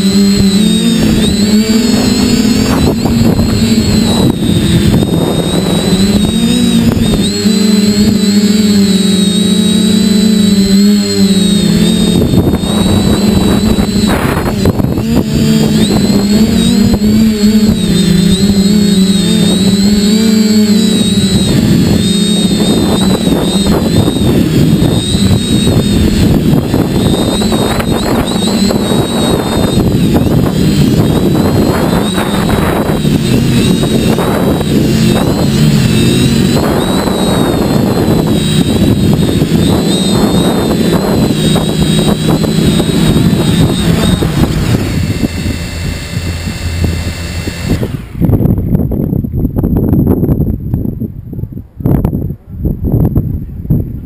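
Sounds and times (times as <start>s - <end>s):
drone motors whining: 0.0s - 50.8s
wind noise on microphone: 0.0s - 54.0s.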